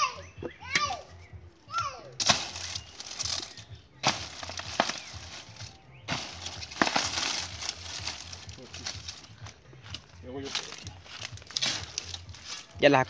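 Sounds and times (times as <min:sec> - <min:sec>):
sharp cracks of leaves snapping: 0:02.2 - 0:12.7
dry leaves rustling and crackling: 0:02.2 - 0:13.0.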